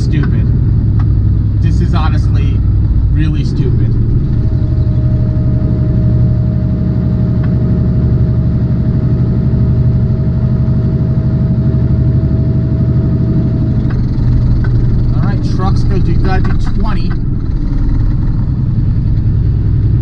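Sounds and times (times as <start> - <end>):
diesel engine drone: 0.0 - 20.0
thin steady whine: 0.0 - 20.0.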